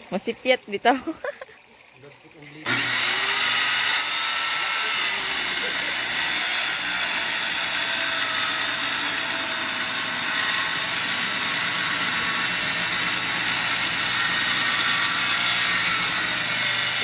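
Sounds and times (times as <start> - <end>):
electric saw cutting wood: 2.6 - 17.0.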